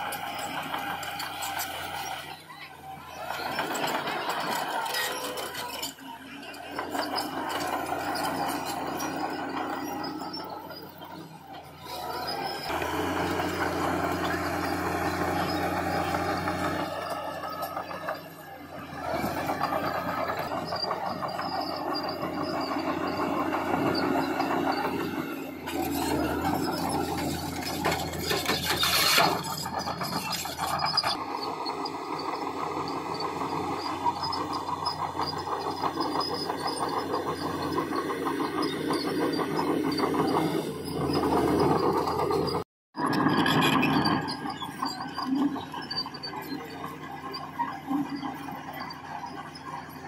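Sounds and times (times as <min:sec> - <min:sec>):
construction machinery engine running: 0:00.0 - 0:50.0.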